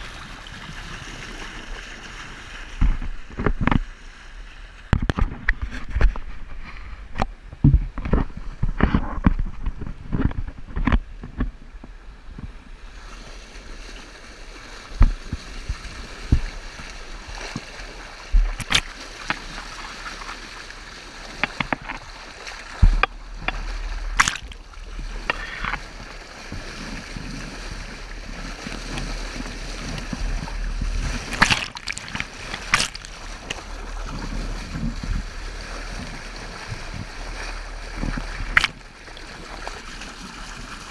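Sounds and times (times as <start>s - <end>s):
water rushing against boat hull: 0.0s - 40.9s.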